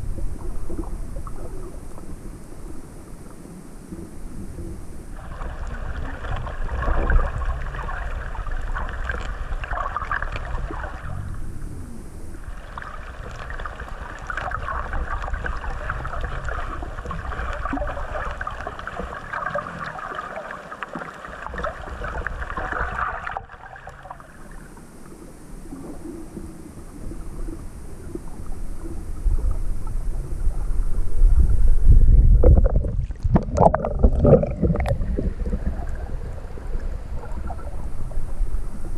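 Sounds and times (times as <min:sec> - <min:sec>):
low water sloshing: 0:00.0 - 0:38.9.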